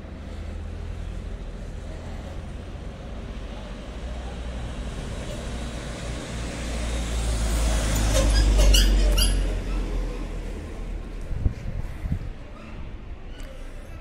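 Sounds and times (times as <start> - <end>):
vehicle passing with road rumble: 0.0 - 14.0.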